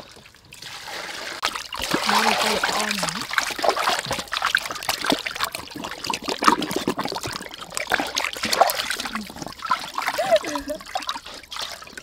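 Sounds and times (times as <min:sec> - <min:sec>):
water splashing in a steel basin: 0:00.0 - 0:12.0.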